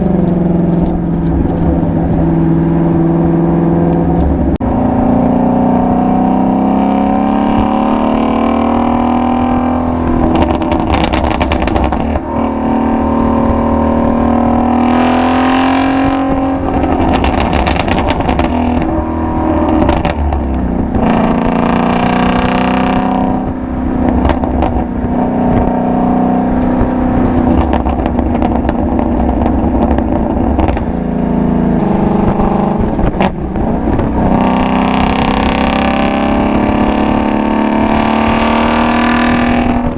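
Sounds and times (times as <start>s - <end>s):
car engine exhaust accelerating: 0.0s - 39.9s.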